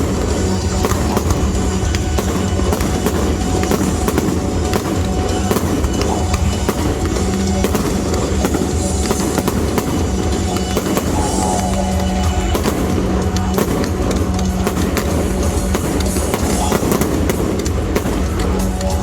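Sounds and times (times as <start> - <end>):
fireworks crackling and popping: 0.0 - 19.0
loud music with bass: 0.0 - 19.0.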